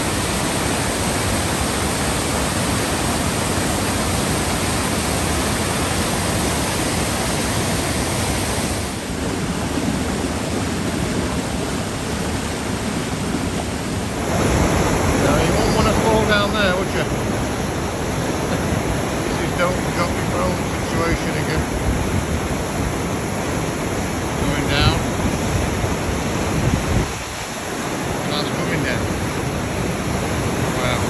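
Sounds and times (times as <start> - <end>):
waterfall and rapids rushing: 0.0 - 31.0.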